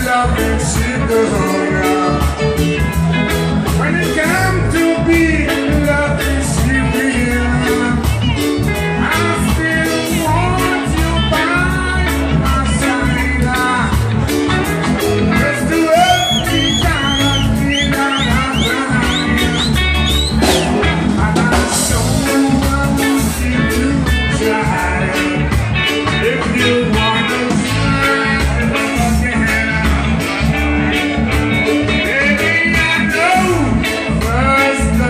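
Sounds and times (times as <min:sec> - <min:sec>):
man singing into microphone: 0:00.0 - 0:02.6, 0:03.7 - 0:14.3, 0:15.2 - 0:35.0
bass guitar: 0:00.0 - 0:35.0
electric guitar: 0:00.0 - 0:35.0
steady drum beat: 0:00.0 - 0:35.0.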